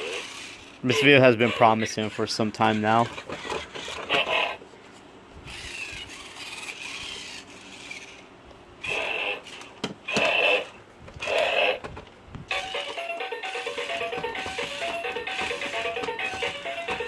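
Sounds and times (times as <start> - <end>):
toy robot motors whirring: 0.0 - 4.6, 5.4 - 17.0.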